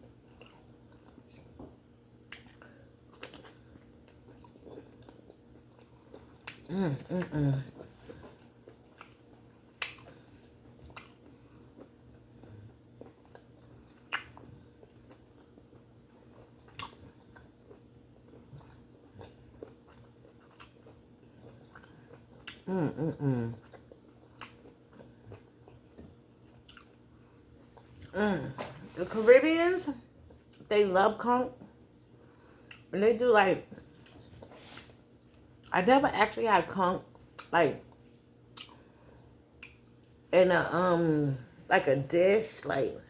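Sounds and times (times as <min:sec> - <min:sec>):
wet chewing sounds: 0:00.0 - 0:29.3, 0:30.0 - 0:30.7, 0:31.6 - 0:33.0, 0:33.6 - 0:35.8, 0:37.0 - 0:40.2.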